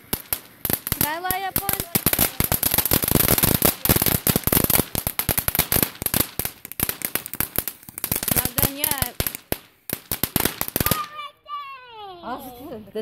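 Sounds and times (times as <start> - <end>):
fireworks popping and crackling: 0.0 - 11.3.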